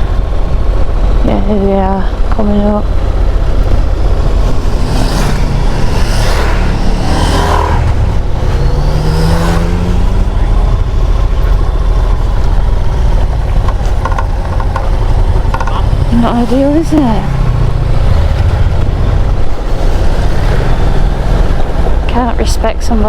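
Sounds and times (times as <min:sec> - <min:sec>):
vehicles passing by: 0:00.0 - 0:23.0
wind and road rush: 0:00.0 - 0:23.0.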